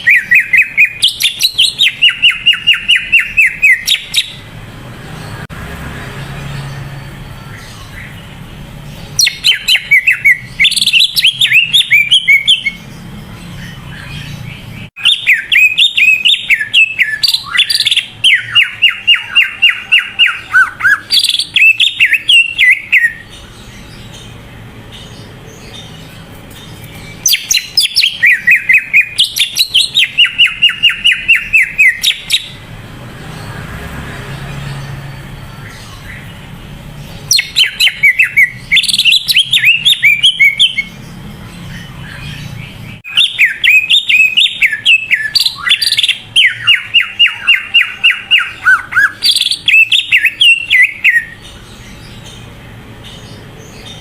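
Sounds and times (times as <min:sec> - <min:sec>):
bird singing chirps and trills: 0:00.0 - 0:54.0.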